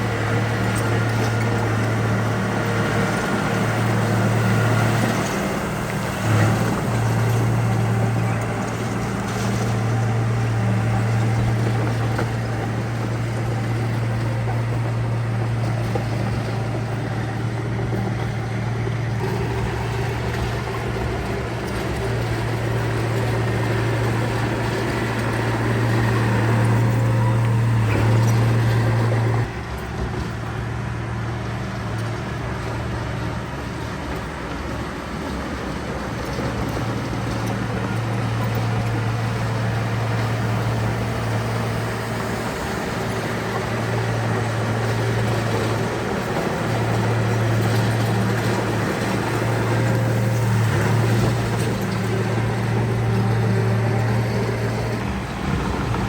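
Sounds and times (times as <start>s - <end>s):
diesel construction machine engine: 0.0s - 56.0s.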